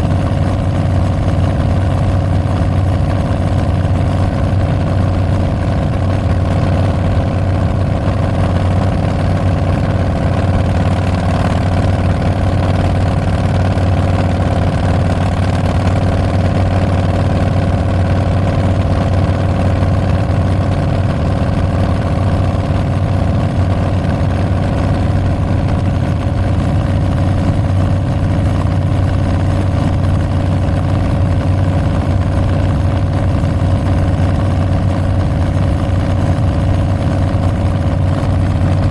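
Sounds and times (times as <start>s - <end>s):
motorcycle exhaust idling: 0.0s - 38.9s.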